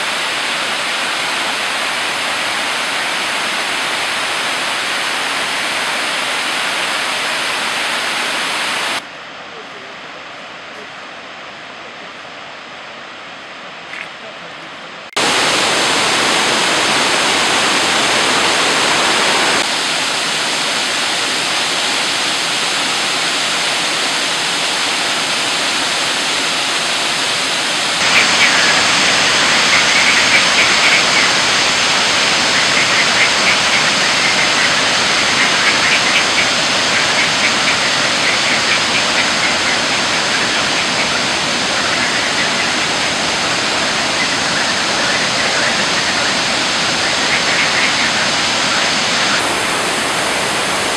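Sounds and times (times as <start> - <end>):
water rushing over rocks: 0.0 - 9.1, 15.2 - 50.9.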